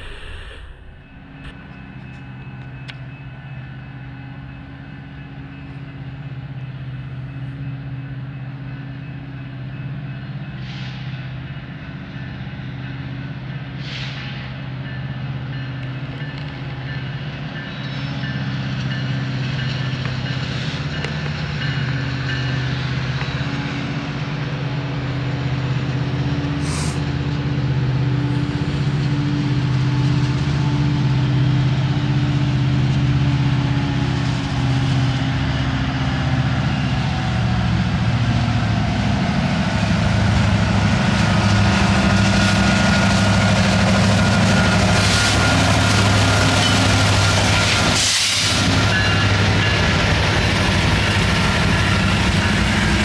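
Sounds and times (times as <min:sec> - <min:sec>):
diesel locomotive engine drone: 0:00.0 - 0:53.0.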